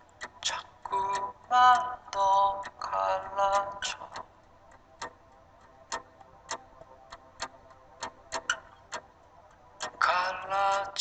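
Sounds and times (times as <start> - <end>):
sharp ticks: 0.0 - 11.0.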